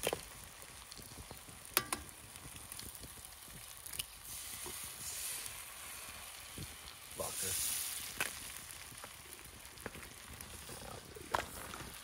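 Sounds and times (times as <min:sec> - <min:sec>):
eggs sizzling in a skillet: 0:00.0 - 0:12.0.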